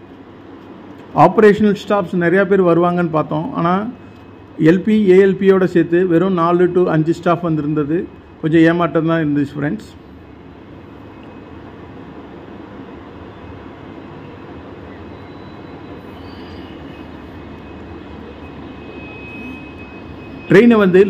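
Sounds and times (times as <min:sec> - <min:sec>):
diesel locomotive engine rumbling: 0:00.0 - 0:21.0.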